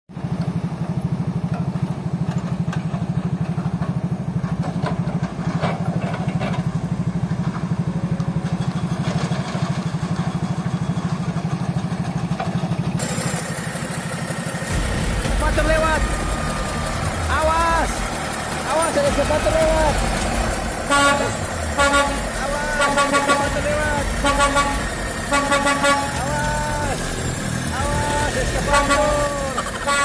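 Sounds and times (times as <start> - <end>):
engine running with low pulse: 0.1 - 30.0
clanks: 1.5 - 30.0.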